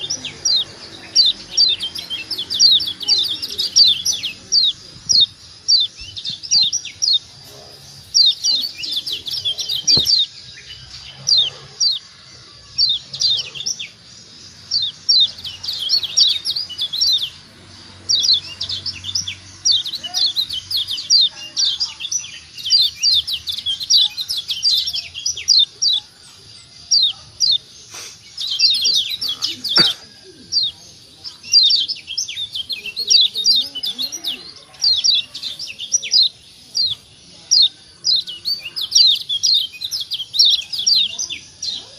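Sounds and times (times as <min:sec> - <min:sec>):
bird chattering chirps: 0:00.0 - 0:41.9.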